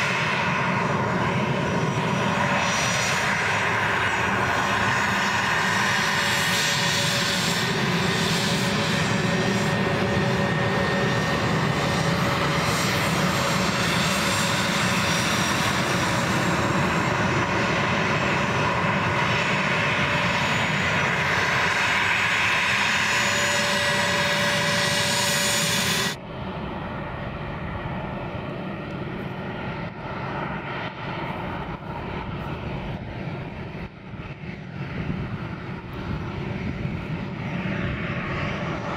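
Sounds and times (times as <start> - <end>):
jet engine rumble and whine: 0.0 - 38.9.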